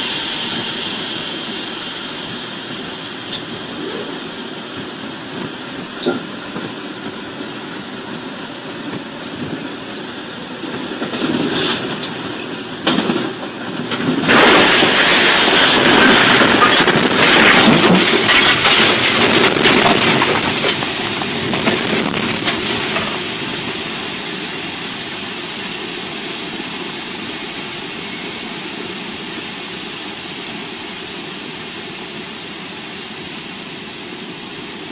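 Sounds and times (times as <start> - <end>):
train clattering on rails: 0.0 - 34.9.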